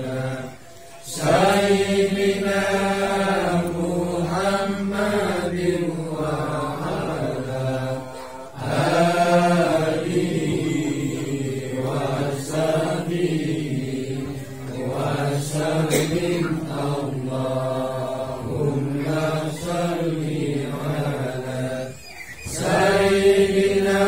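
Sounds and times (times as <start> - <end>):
men chanting prayers in unison: 0.0 - 24.0.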